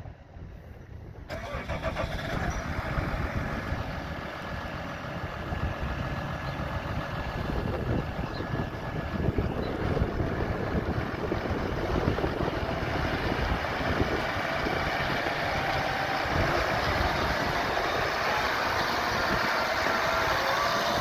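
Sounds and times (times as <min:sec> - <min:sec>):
tractor diesel engine idling: 0:00.7 - 0:21.0.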